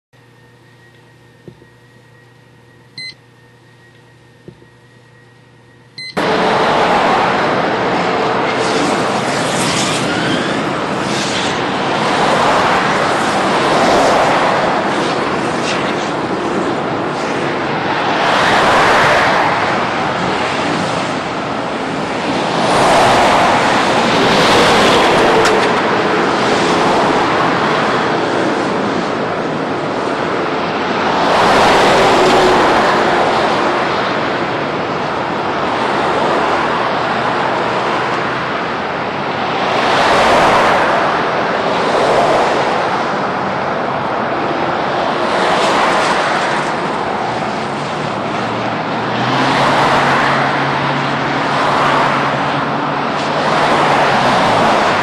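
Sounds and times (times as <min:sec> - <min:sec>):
highway traffic passing at speed: 0:06.0 - 0:55.0.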